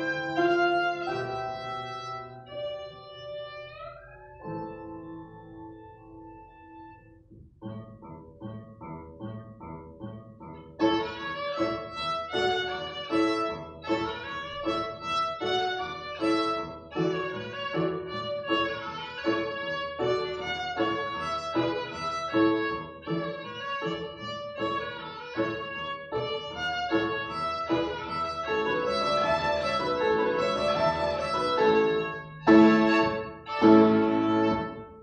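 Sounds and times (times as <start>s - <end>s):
violin melody: 0.0s - 7.3s, 10.6s - 35.0s
upright piano chords: 0.0s - 35.0s.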